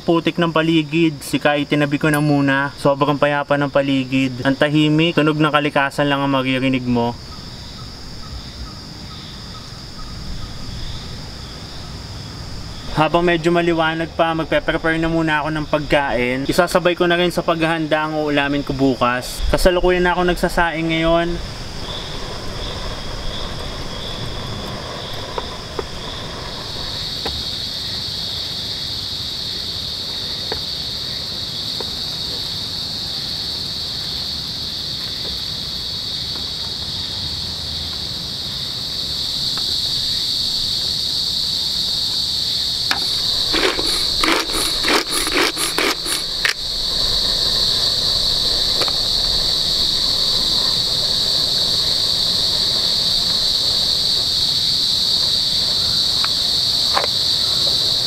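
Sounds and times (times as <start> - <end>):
forest insects chorus: 0.0 - 58.0.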